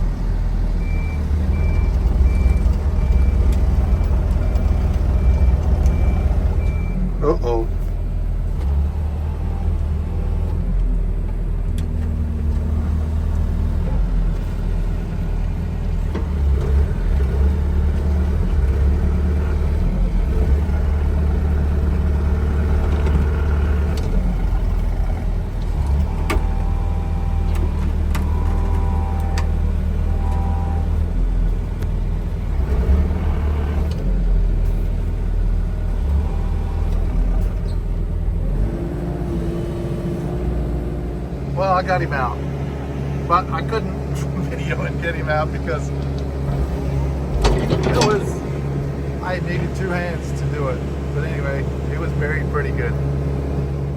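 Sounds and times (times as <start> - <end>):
heavy equipment engine rumbling: 0.0 - 53.9.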